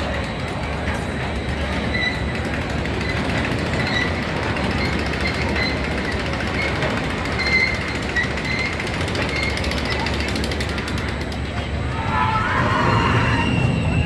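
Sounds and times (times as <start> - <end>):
roller coaster rattling on track: 0.0 - 14.0
high squeals of coaster wheels: 0.1 - 14.0.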